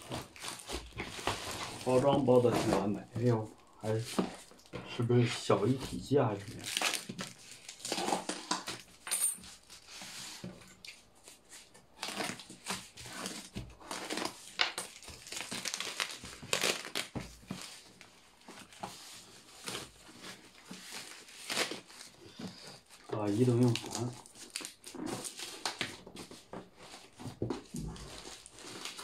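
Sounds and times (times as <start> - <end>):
packaging tearing: 0.0 - 4.7, 6.4 - 9.0, 12.0 - 29.0
packaging crinkling and rustling: 0.0 - 29.0.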